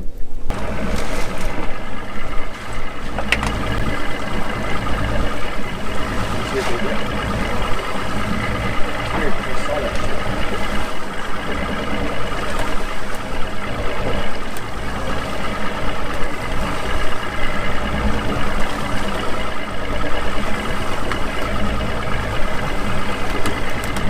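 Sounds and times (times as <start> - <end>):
engine running steadily: 0.5 - 24.0.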